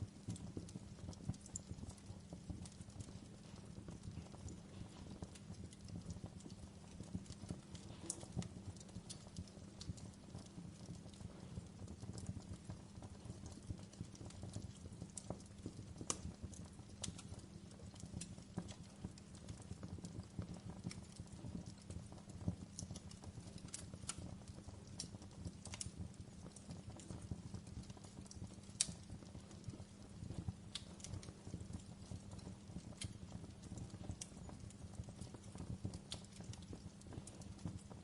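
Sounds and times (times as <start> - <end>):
campfire crackling and popping: 0.0 - 38.0
low rumble of burning: 0.0 - 38.0.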